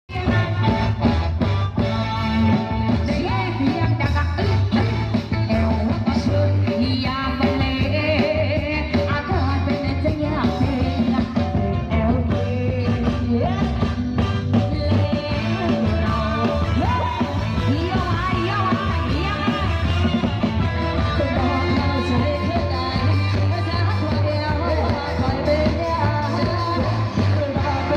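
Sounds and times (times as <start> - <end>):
heavy bass: 0.1 - 27.9
rock song with singing: 0.1 - 27.9.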